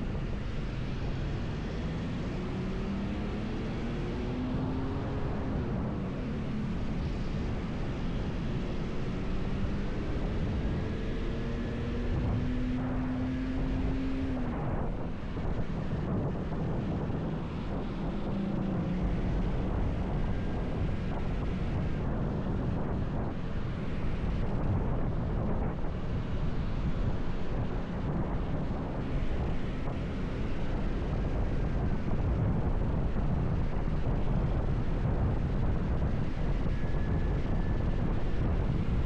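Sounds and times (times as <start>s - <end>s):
motorcycle riding noise: 0.0s - 39.0s
wind rushing over microphone: 0.0s - 39.0s.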